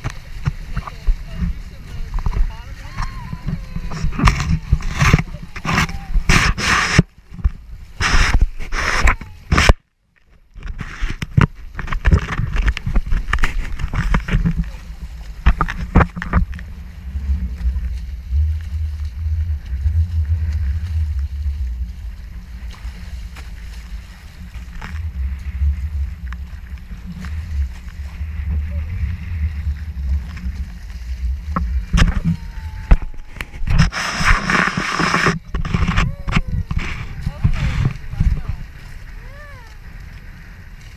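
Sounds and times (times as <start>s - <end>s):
wind buffeting microphone: 0.0s - 9.8s, 10.6s - 40.9s
water splashing against hulls: 0.0s - 40.9s.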